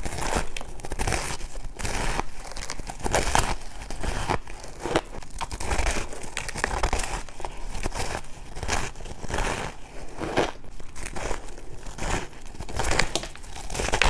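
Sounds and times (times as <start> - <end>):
crushed ice crunching: 0.0 - 14.0.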